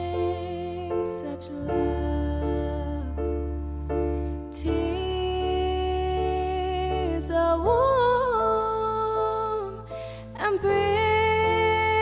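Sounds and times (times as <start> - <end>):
slow song of held chords: 0.0 - 12.0.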